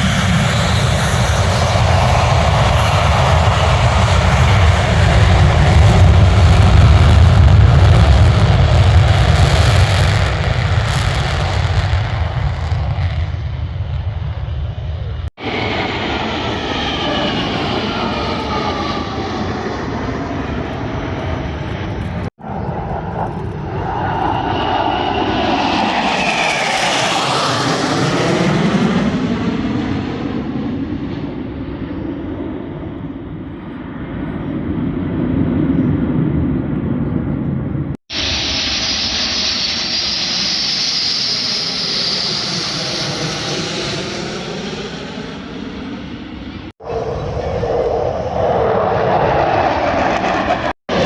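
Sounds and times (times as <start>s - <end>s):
aircraft flying past: 0.0s - 51.0s.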